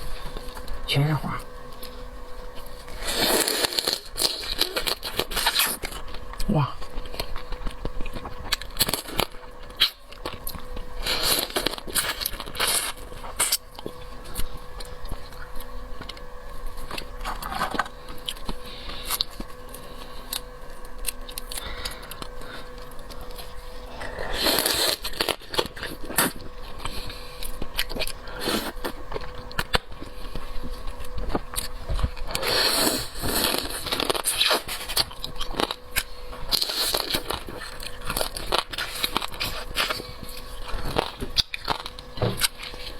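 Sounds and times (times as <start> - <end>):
crab shell cracking and crunching: 1.6 - 32.4, 33.0 - 42.8
chewing: 1.6 - 42.9.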